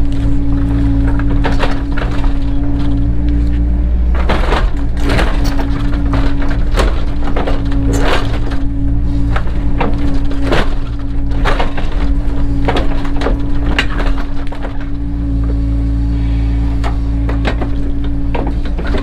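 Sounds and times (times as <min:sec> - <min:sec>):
cracks and knocks in ground: 0:00.0 - 0:19.0
excavator engine humming: 0:00.0 - 0:19.0.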